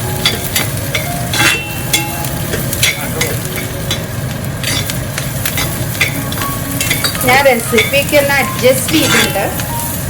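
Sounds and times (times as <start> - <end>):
exhaust fan humming: 0.0 - 10.0
onions sizzling in hot oil: 0.0 - 10.0
spoon scraping and knocking pan: 0.2 - 9.7.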